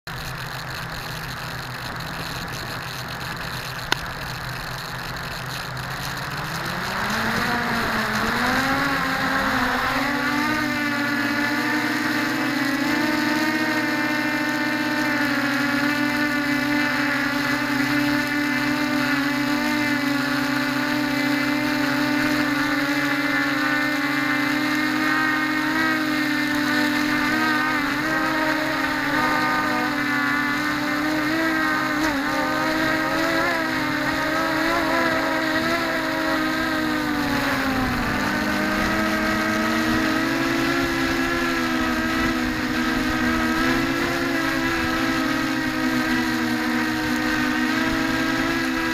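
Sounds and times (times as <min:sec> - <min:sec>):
quadcopter motors whining: 0:00.1 - 0:48.9.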